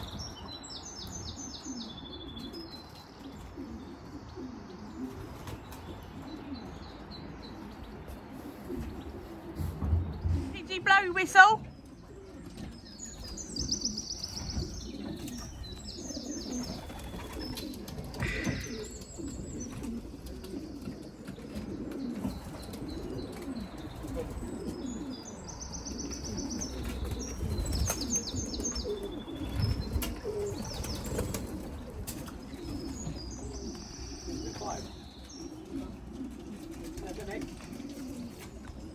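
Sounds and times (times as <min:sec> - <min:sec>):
pigeons cooing: 0:00.0 - 0:10.5, 0:11.6 - 0:38.9.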